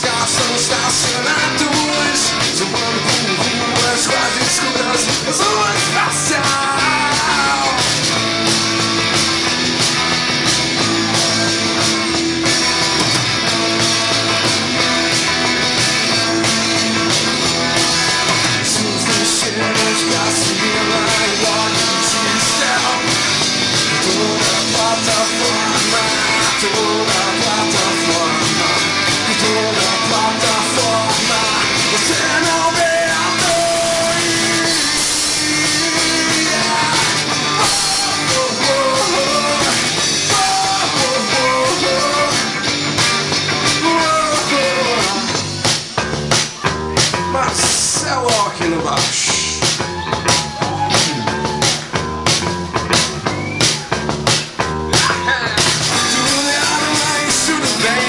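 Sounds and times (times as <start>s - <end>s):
punk rock electric guitar music: 0.0s - 58.0s.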